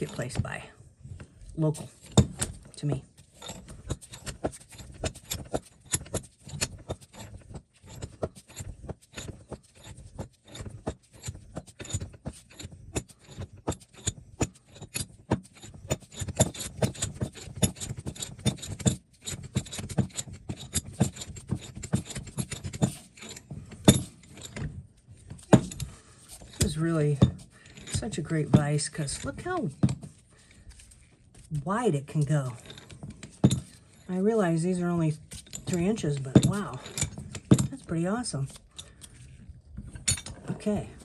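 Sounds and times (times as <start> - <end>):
metal clinks rattles and scrapes: 0.0 - 41.0.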